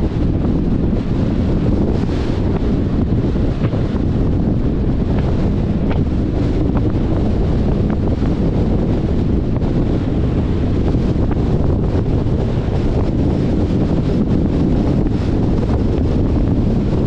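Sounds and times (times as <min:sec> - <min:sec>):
road noise: 0:00.0 - 0:14.2
wind rushing over microphone: 0:00.0 - 0:17.0.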